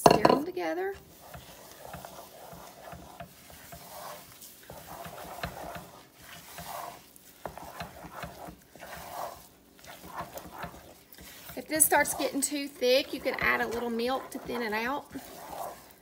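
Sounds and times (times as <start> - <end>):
wooden spoon stirring thick mixture: 0.0 - 16.0.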